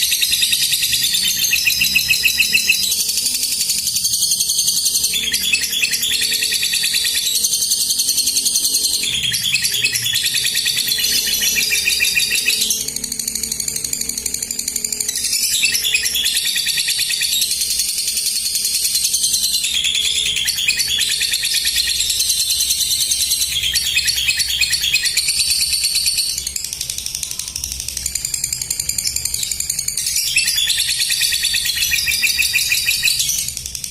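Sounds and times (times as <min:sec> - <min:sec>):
bird chattering trill: 0:00.0 - 0:33.9.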